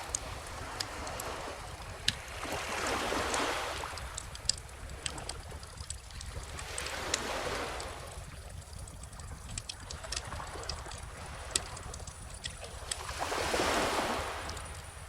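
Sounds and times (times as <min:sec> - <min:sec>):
bonfire crackling and popping: 0:00.0 - 0:14.8
ocean waves washing: 0:00.0 - 0:15.0.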